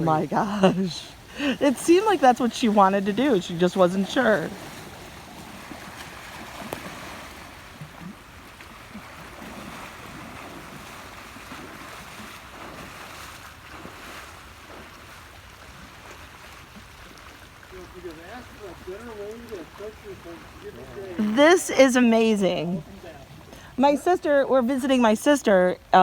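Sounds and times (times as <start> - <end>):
rain and moving water: 0.0 - 26.0.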